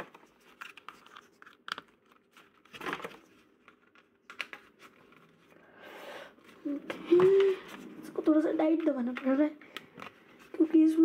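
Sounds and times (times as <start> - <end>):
faint plastic clicks and rustles: 0.0 - 5.5, 6.4 - 10.8.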